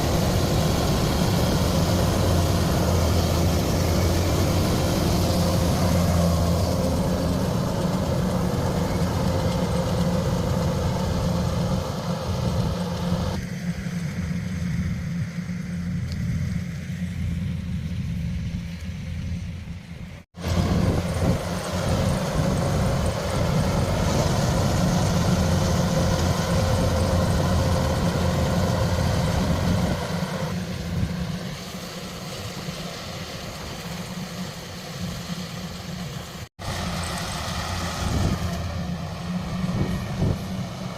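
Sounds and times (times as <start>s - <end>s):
farm machinery engine humming: 0.0s - 40.9s.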